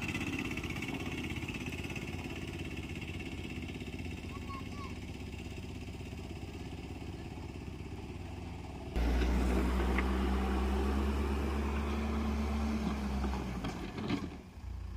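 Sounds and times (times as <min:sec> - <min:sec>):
front loader engine under load: 0:00.0 - 0:14.9
steady engine drone: 0:00.0 - 0:14.9.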